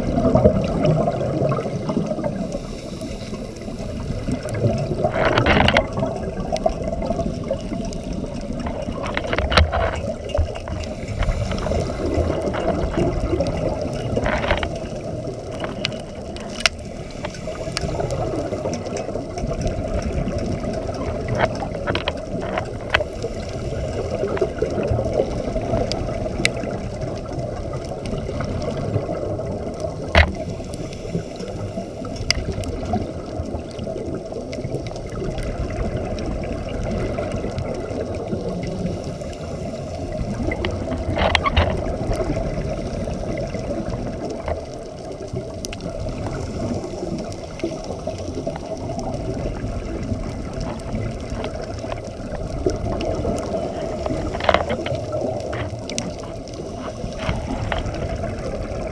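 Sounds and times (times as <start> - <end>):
bubbles gurgling: 0.0 - 58.9
muffled underwater rumble: 0.0 - 58.9.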